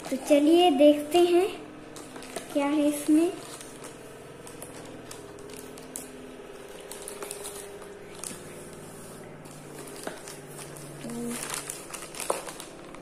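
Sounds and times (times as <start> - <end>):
plastic mailer rustling: 0.0 - 13.0.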